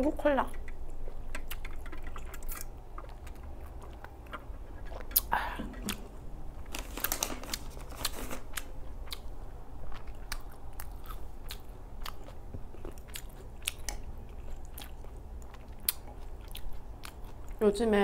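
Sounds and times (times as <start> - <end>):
close-up chewing of food: 0.7 - 17.6.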